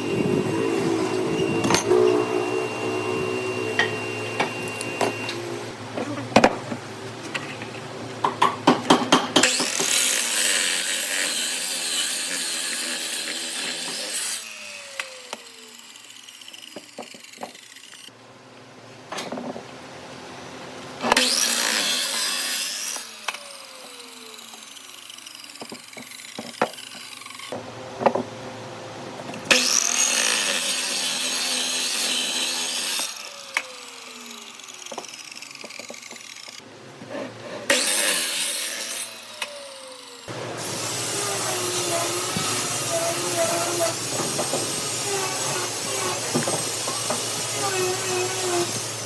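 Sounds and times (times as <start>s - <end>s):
power tool cutting wood: 0.0s - 5.7s, 9.4s - 18.2s, 21.0s - 27.6s, 29.4s - 36.6s, 37.7s - 49.0s.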